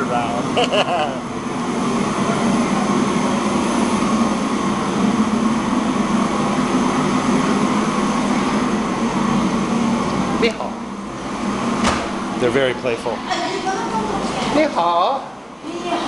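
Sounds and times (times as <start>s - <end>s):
rushing air noise: 0.0s - 13.0s
machine hum: 0.0s - 16.0s.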